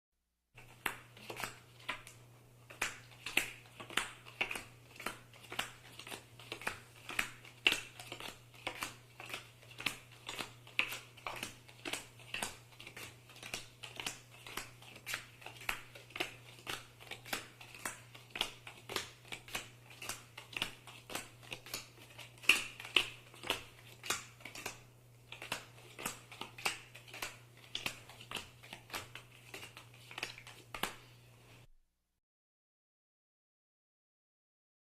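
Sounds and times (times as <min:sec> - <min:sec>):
playing cards snapping: 0:00.7 - 0:31.1.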